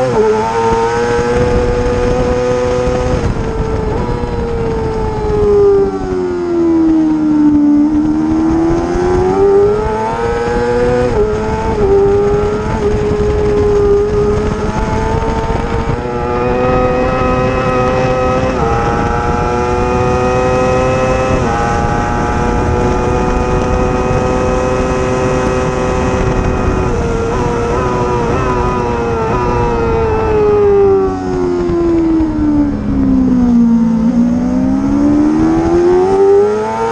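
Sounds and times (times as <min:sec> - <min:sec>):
racing motorcycle engine: 0:00.0 - 0:36.9
wind rushing: 0:00.3 - 0:36.9.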